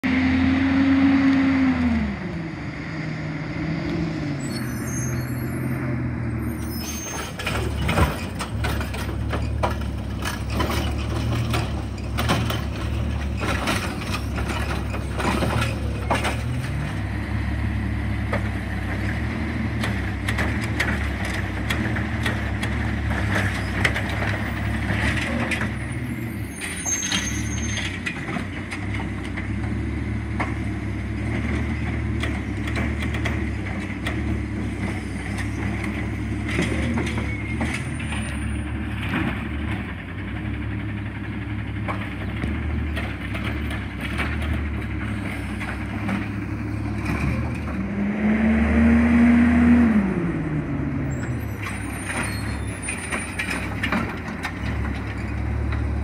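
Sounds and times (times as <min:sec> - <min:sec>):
garbage truck engine drone: 0:00.0 - 0:56.0.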